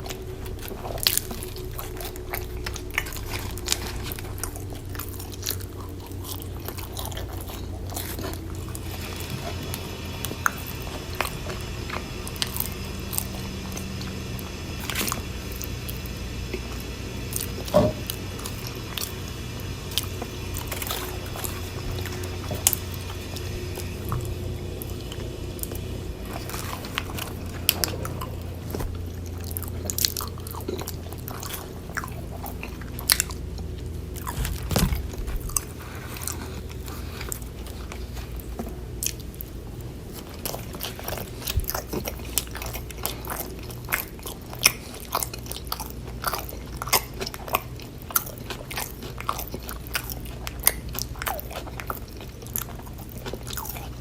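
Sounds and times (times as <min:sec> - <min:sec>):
chewing crunchy food: 0:00.0 - 0:54.0
steady low hum: 0:00.0 - 0:54.0.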